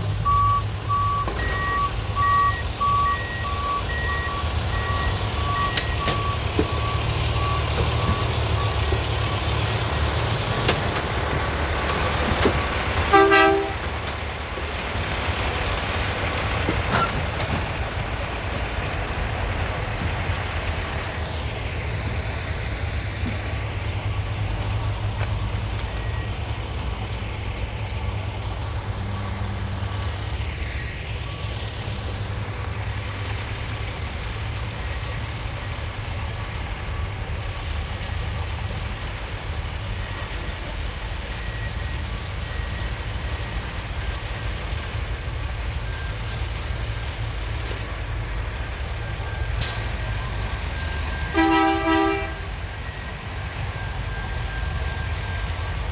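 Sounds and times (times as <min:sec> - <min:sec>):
heavy engine rumbling: 0:00.0 - 0:55.9.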